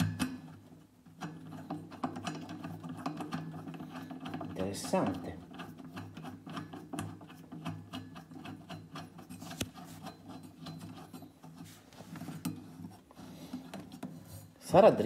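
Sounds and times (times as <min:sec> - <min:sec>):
small clicks and rubbing on metal: 0:00.0 - 0:15.0.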